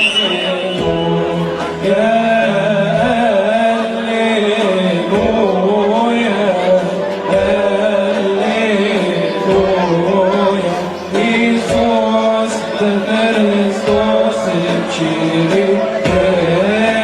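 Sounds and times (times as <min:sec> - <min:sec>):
low beat: 0:00.0 - 0:17.0.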